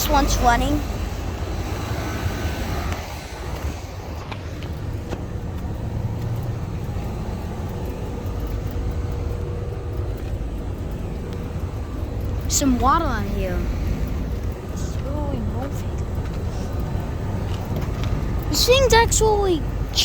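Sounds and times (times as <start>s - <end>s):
fan rushing: 0.0s - 20.0s.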